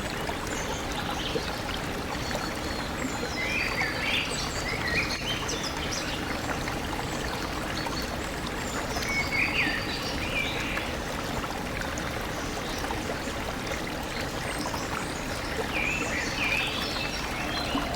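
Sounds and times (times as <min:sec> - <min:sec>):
stream flowing: 0:00.0 - 0:17.9.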